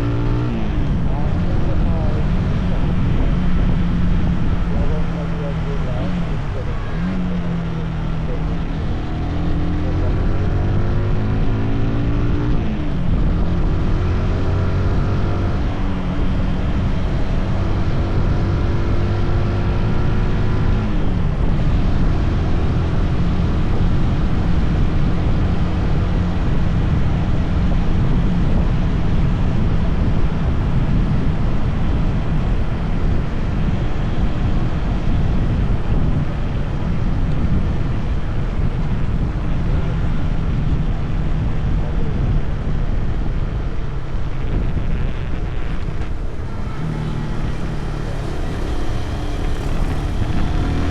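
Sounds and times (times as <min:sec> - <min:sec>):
motorcycle engine running: 0:00.0 - 0:50.9
wind rushing over microphone: 0:00.0 - 0:50.9.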